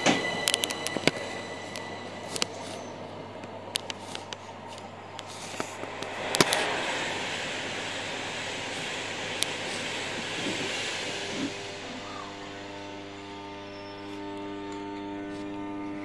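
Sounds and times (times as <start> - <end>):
train carriage running noise: 0.0 - 14.0
hissing rush: 0.0 - 14.4.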